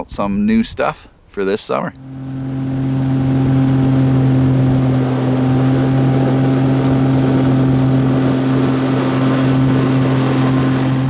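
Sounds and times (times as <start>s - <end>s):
boat engine drone: 1.9s - 11.0s
rush of water and air: 2.0s - 11.0s.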